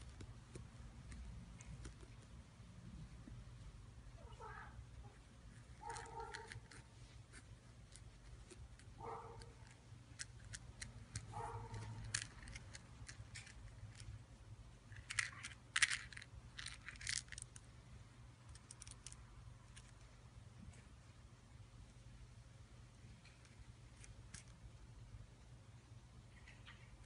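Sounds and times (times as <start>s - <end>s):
kitten playing clicks and rustles: 0.0s - 21.2s, 22.9s - 25.1s.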